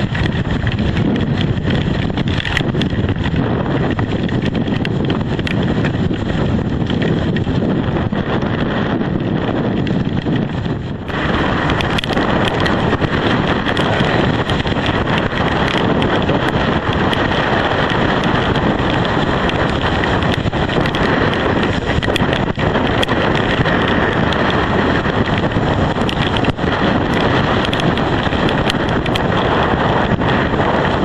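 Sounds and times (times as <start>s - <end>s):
small clicks: 0.0s - 8.4s, 9.2s - 31.0s
storm wind buffeting microphone: 0.0s - 31.0s.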